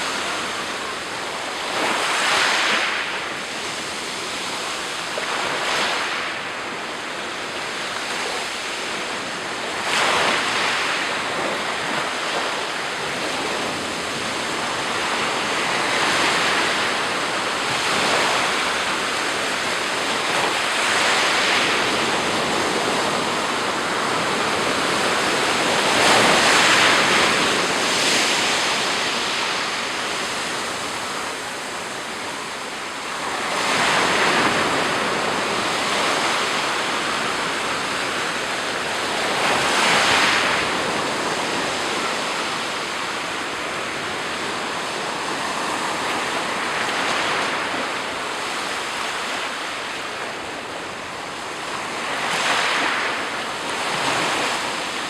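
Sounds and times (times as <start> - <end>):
waves breaking on shore: 0.0 - 55.0
wind on microphone: 0.0 - 55.0.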